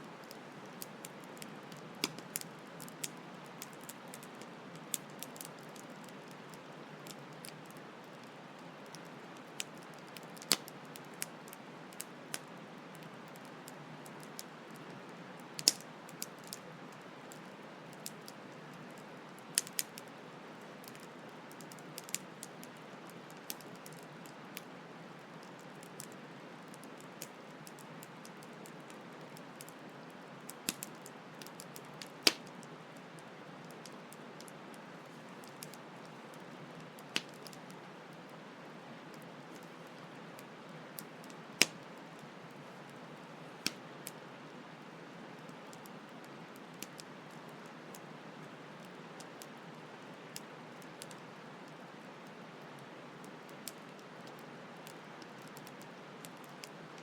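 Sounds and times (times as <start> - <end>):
campfire crackling and popping: 0.1 - 29.8, 30.4 - 38.0, 39.1 - 57.0.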